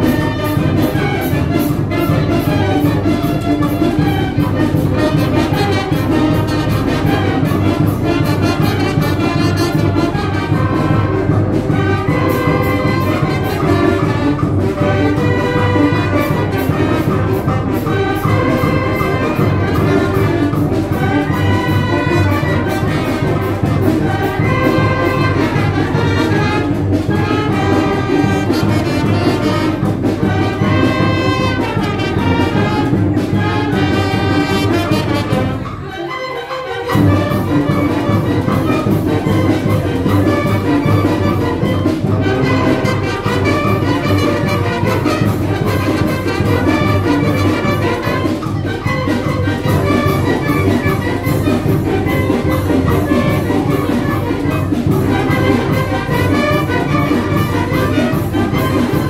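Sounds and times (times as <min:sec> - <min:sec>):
wind band playing: 0:00.0 - 0:59.0.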